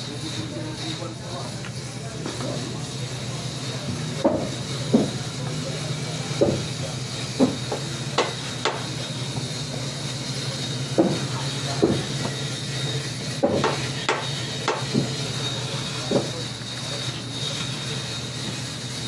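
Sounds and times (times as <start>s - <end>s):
low machine hum with whine: 0.0s - 19.0s.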